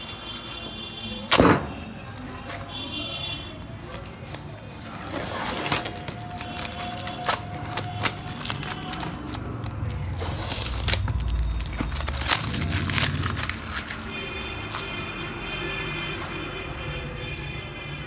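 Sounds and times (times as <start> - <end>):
packing material crinkling: 0.0 - 18.0.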